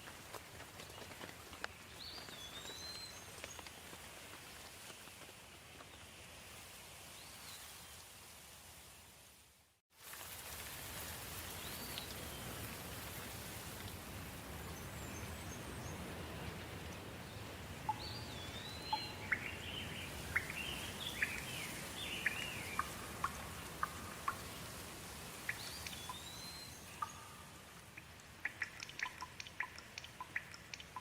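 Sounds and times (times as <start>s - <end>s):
soft rain falling: 0.0s - 31.0s.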